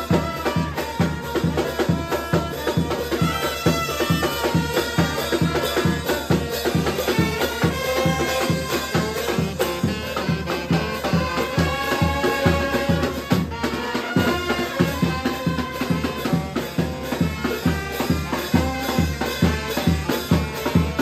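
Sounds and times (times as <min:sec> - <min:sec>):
brass band playing: 0:00.0 - 0:21.0
steady drum beat: 0:00.0 - 0:21.0.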